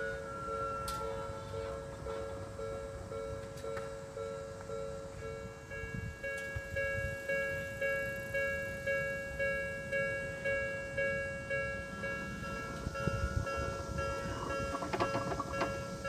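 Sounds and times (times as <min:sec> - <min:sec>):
level crossing warning bell: 0:00.0 - 0:16.0.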